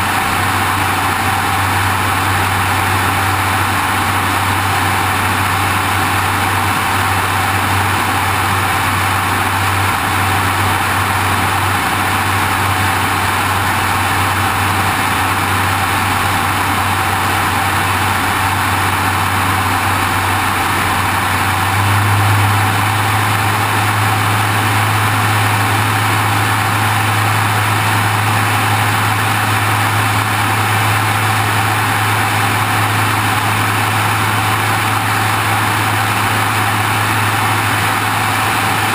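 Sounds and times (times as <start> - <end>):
airplane engine drone: 0.0 - 38.9.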